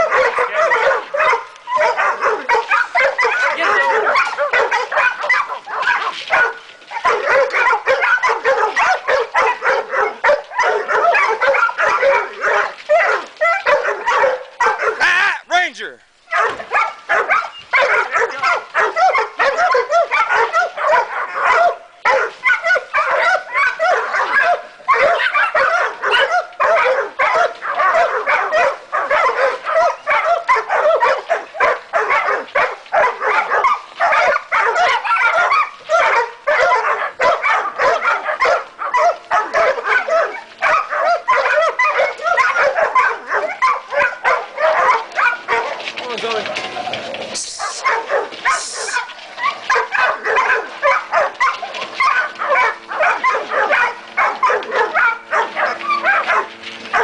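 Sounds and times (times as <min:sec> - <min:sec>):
dog barking rapidly: 0:00.0 - 0:57.0.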